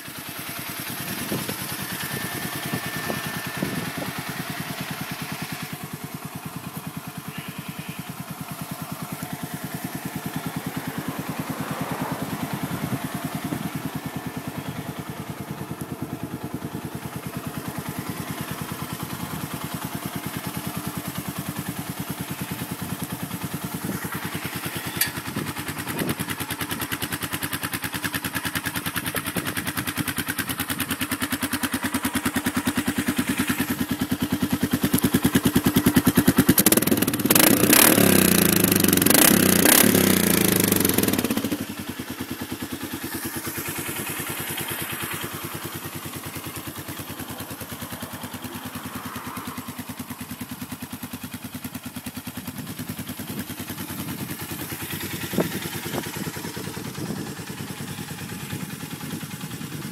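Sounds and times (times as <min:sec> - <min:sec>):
atv engine idling: 0:00.0 - 0:59.9.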